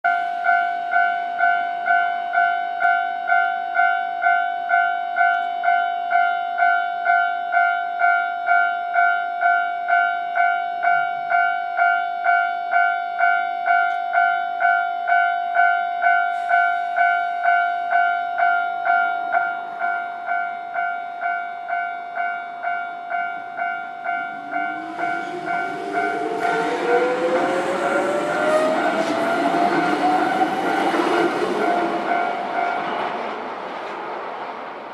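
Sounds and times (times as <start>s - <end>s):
level-crossing warning bell ringing: 0.1s - 33.4s.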